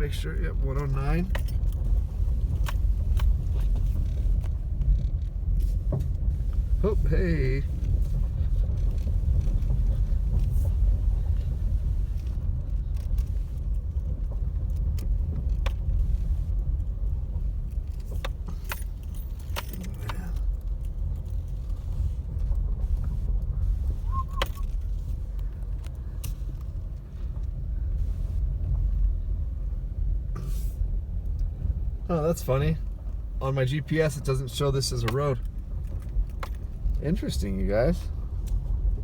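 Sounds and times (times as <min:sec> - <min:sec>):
light rattles and clicks: 0:00.0 - 0:39.0
tyre and engine rumble: 0:00.0 - 0:39.0.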